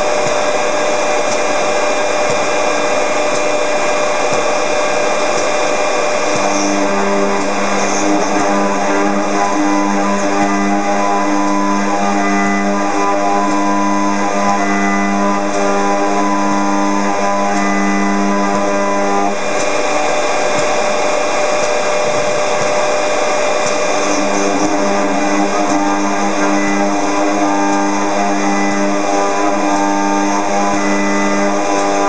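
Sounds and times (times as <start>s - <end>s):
milling spindle whining: 0.0s - 32.0s
steady tone: 0.0s - 32.0s.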